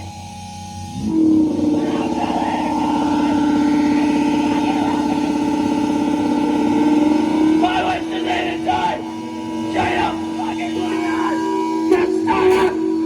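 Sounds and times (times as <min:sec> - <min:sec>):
distorted electric guitar drone: 0:00.0 - 0:13.0
raw voice: 0:00.8 - 0:13.0.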